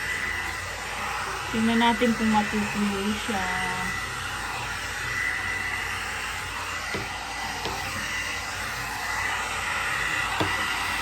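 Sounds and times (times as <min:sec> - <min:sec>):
fan motor whine: 0:00.0 - 0:11.0
hair brush blowing hiss: 0:00.0 - 0:11.0.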